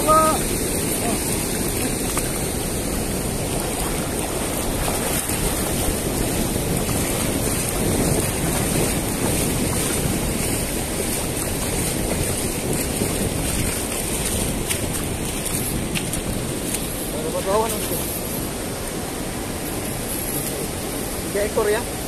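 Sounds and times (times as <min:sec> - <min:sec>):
river water rushing: 0:00.0 - 0:22.0
wind buffeting microphone: 0:00.0 - 0:22.0.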